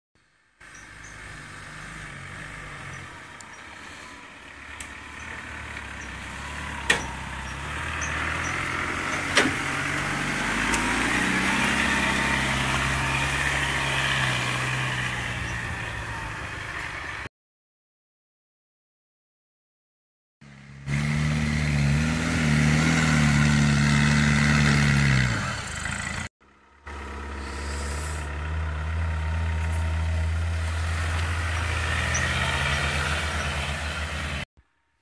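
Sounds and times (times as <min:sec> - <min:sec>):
off-road truck engine running: 0:00.2 - 0:17.3, 0:20.4 - 0:34.5.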